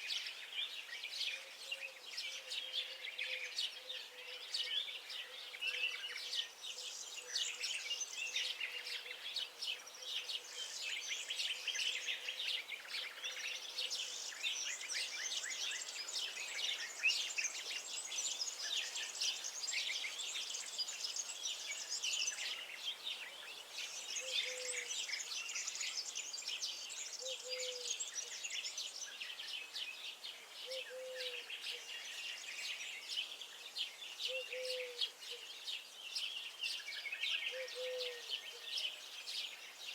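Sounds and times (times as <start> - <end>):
songbirds chirping in chorus: 0.0 - 39.9.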